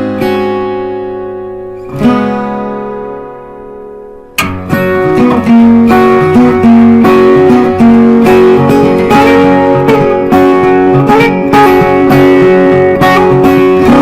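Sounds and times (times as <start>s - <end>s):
acoustic guitar strumming and plucking: 0.0s - 14.0s.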